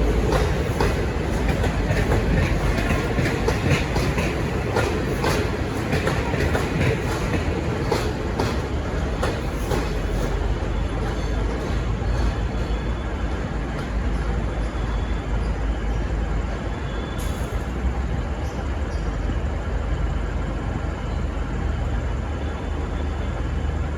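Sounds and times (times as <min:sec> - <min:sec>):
diesel train rumbling: 0:00.0 - 0:23.9.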